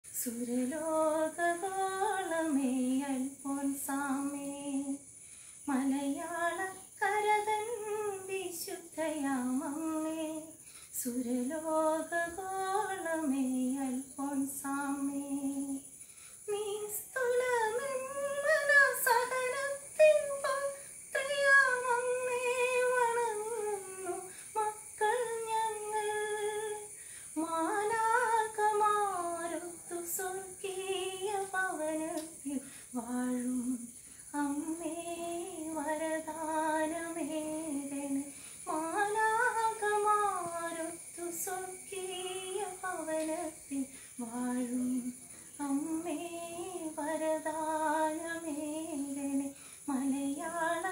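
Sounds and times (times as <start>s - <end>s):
woman singing unaccompanied: 0.0s - 50.9s.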